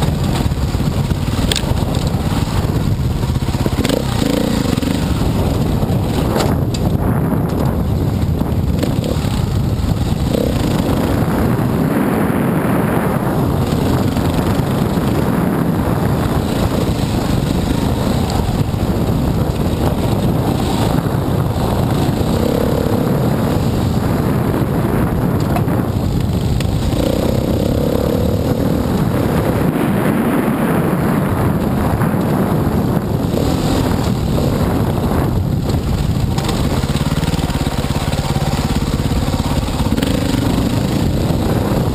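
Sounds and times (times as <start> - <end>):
dirt bike engine under throttle: 0.0 - 41.9.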